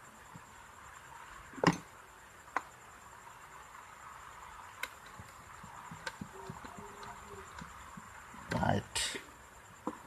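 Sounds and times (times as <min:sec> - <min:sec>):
faint high-pitched tone: 0:00.0 - 0:10.0.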